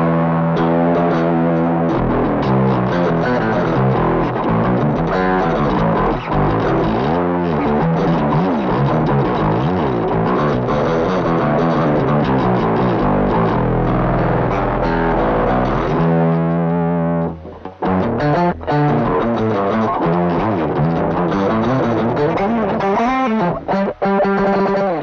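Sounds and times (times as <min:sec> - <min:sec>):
distorted electric bass run: 0:00.0 - 0:23.7.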